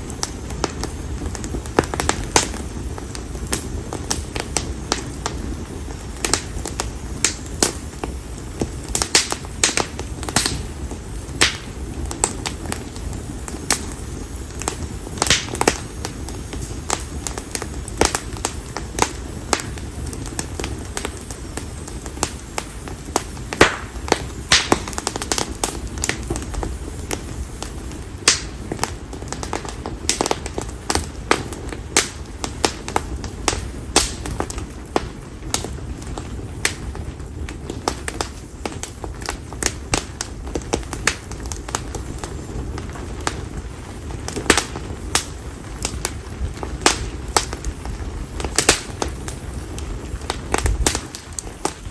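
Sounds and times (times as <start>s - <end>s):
bonfire crackling and popping: 0.0s - 51.9s
low fire rumble: 0.0s - 51.9s.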